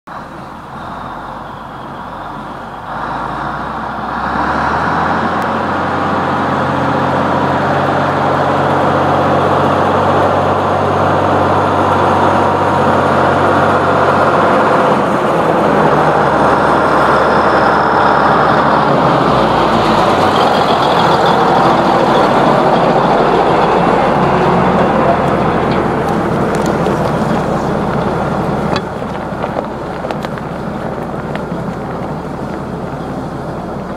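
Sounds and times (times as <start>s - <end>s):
tractor diesel engine: 0.1s - 33.9s.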